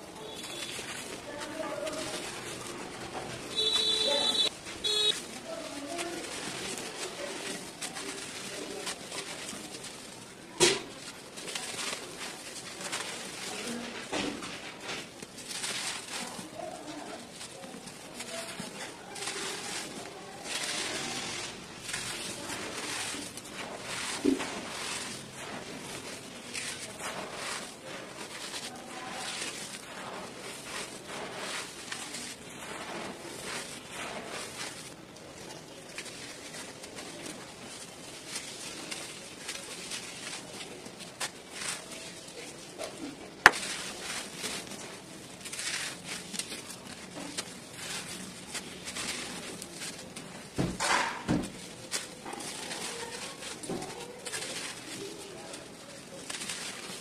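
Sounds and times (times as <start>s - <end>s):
dirt crumbling and falling: 0.0s - 57.0s
fingers raking through dirt: 0.0s - 57.0s.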